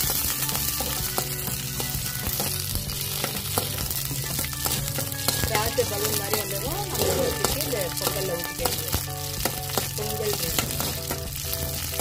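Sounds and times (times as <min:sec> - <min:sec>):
nuts sizzling in hot oil: 0:00.0 - 0:12.0
spoon stirring in a pan: 0:00.0 - 0:12.0.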